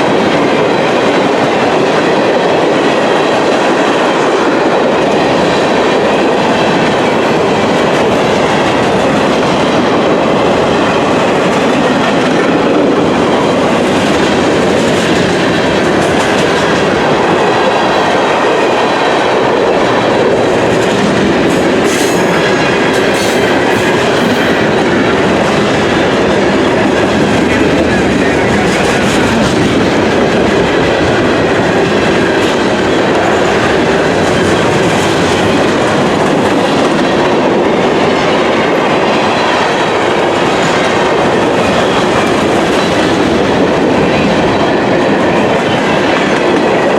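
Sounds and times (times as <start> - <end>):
train wheels clicking over rails: 0.0 - 46.9.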